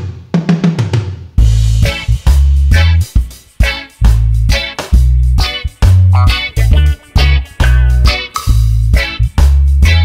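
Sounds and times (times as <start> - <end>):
bass line: 1.4 - 10.0
plucked guitar notes: 1.7 - 10.0.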